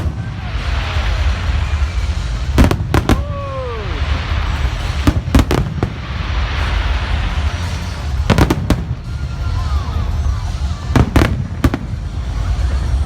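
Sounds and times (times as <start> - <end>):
firework bangs: 0.0 - 13.0
steady low rumble: 0.0 - 13.0.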